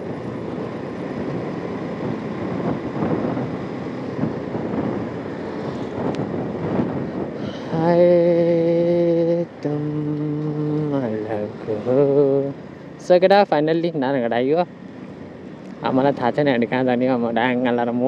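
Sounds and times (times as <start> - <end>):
motorcycle running: 0.0 - 18.0
wind rushing over microphone: 0.0 - 18.0.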